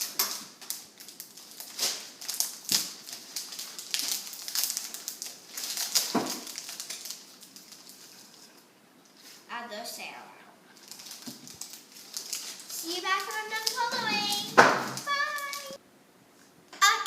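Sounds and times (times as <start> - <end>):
packaging rustling and crinkling: 0.0 - 9.4, 10.8 - 15.8.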